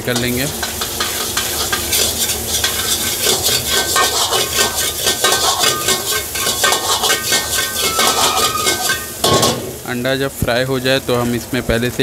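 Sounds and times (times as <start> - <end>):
ladle scraping a wok: 0.0 - 9.6
oil sizzling: 0.0 - 12.0.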